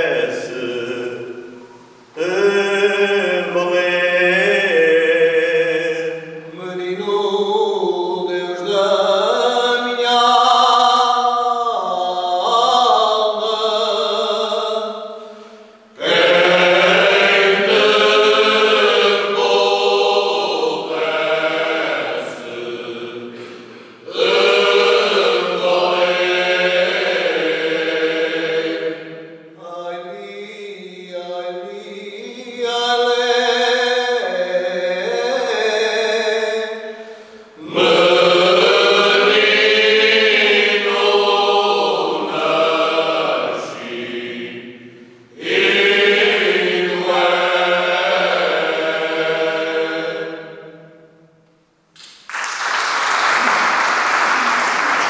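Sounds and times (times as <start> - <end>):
male choir singing unaccompanied: 0.0 - 15.2, 16.0 - 50.8.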